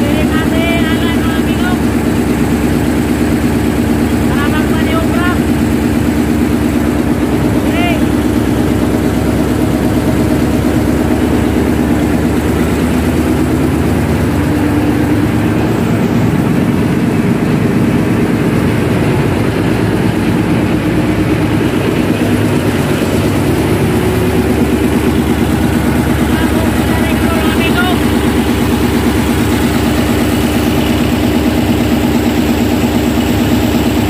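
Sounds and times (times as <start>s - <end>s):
diesel engine running loudly: 0.0s - 34.0s.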